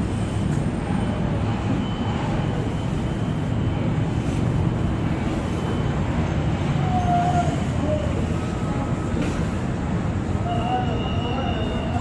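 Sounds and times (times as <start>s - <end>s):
construction machine engine droning: 0.0s - 12.0s.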